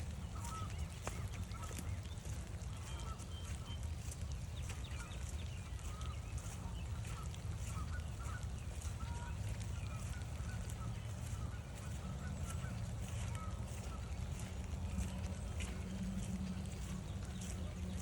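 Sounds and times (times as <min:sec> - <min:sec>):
geese honking: 0:00.0 - 0:18.0
light rain ticking: 0:00.0 - 0:18.0
wind rumble on microphone: 0:00.0 - 0:18.0.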